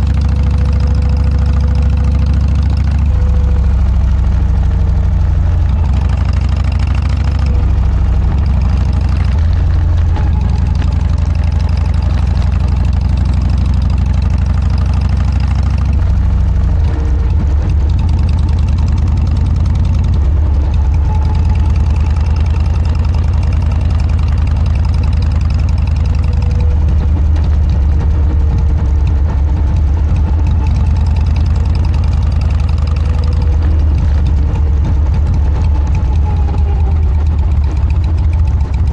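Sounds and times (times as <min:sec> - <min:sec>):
motorcycle exhaust note: 0:00.0 - 0:38.9.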